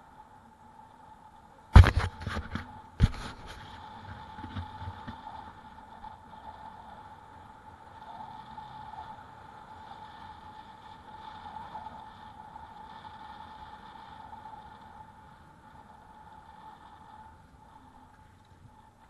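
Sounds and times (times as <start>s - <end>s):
faint motor whine: 0.0s - 19.0s.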